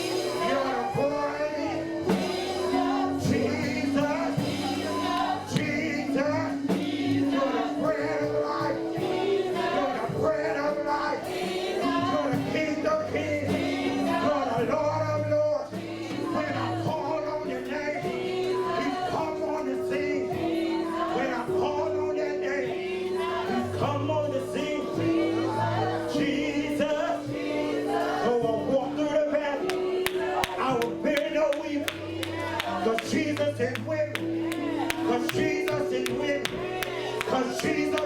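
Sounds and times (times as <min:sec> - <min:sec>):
keyboard chords: 0:00.0 - 0:38.0
voices singing together: 0:00.0 - 0:38.0.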